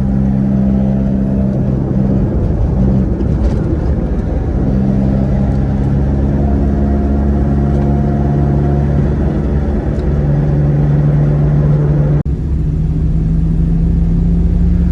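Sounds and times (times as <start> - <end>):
heavy truck engine running: 0.0 - 14.9.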